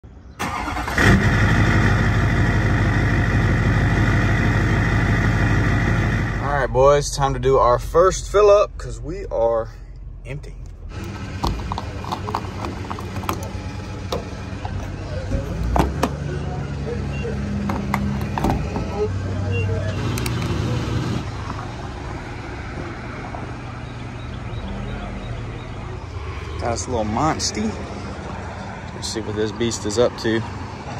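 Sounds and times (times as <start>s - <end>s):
road traffic: 0.0s - 30.9s
diesel truck engine idling: 0.4s - 30.9s.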